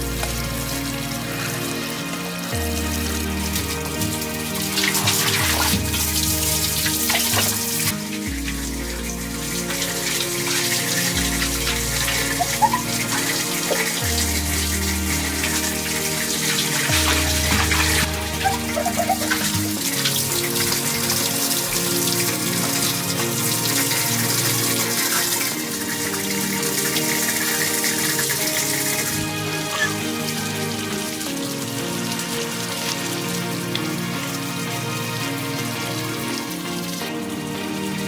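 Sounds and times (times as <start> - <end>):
background music: 0.0 - 38.0
water splashing: 0.0 - 38.0.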